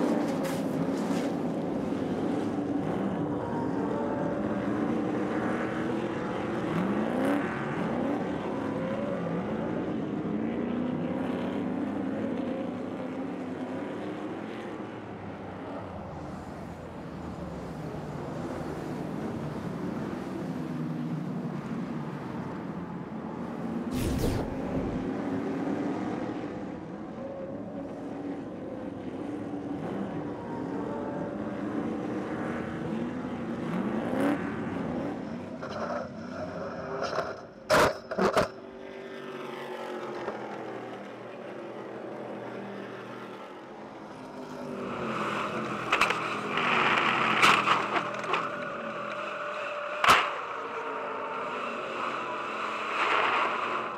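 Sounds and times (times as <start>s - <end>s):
racing truck engines: 0.0s - 53.9s.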